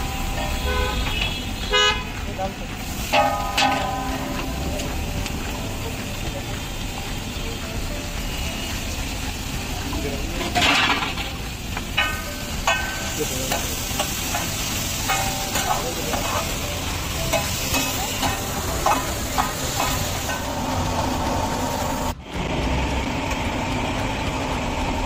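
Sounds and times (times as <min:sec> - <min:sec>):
vegetables sizzling on iron plate: 0:00.0 - 0:22.2.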